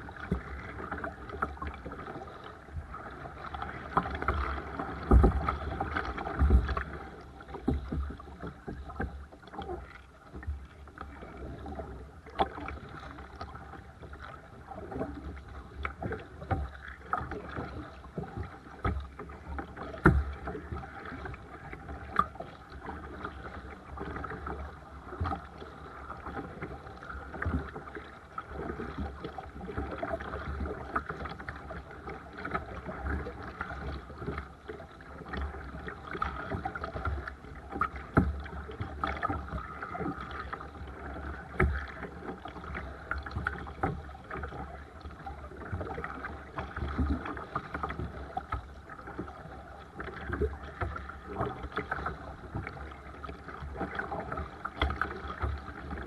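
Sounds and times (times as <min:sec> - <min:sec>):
paddle splashes and knocks: 0:00.0 - 0:56.0
water sloshing against kayak: 0:00.0 - 0:56.0.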